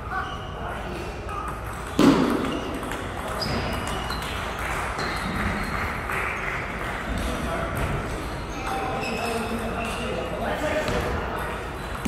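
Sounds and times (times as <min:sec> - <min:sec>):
ping pong ball hits and bounces: 0:01.0 - 0:10.2, 0:10.8 - 0:12.0.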